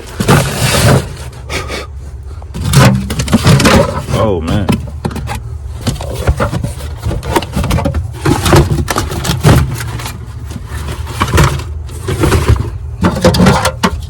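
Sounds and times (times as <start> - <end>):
hard parts knocking and scraping: 0.0 - 14.0
steady low hum: 0.0 - 14.0.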